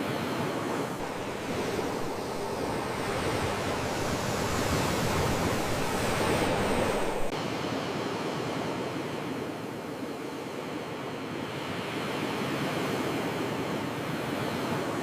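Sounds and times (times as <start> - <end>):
sea waves surf: 0.0 - 15.0.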